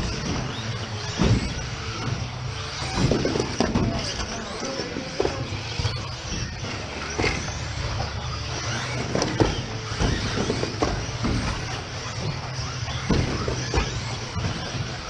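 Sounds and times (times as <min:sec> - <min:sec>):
whir of toy car motors: 0:00.0 - 0:15.0.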